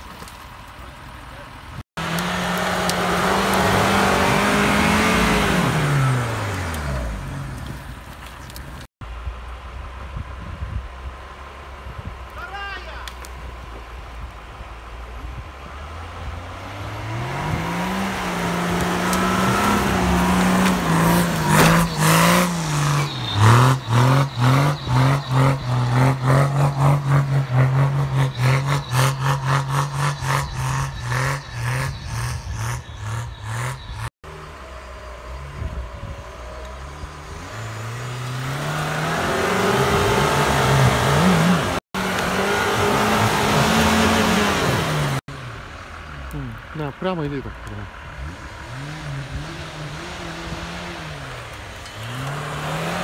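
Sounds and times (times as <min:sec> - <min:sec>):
suv engines revving hard: 0:02.0 - 0:08.1, 0:14.8 - 0:53.0.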